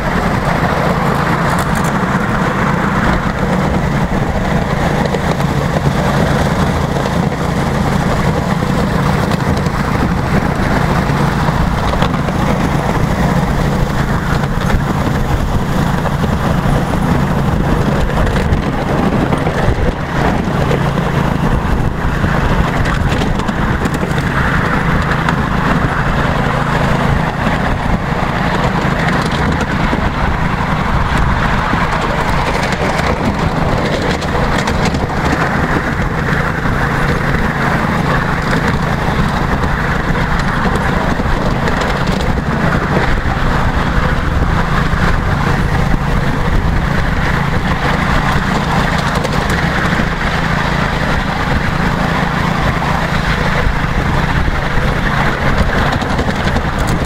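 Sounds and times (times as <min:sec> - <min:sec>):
miniature train rumbling on track: 0:00.0 - 0:57.0.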